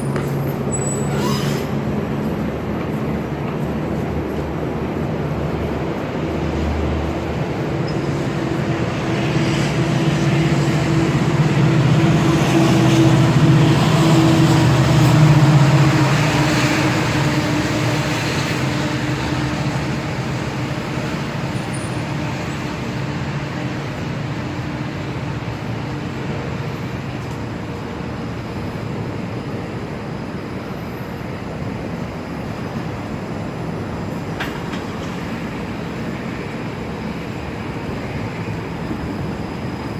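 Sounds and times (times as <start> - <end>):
streetcar humming on rails: 0.0 - 39.9.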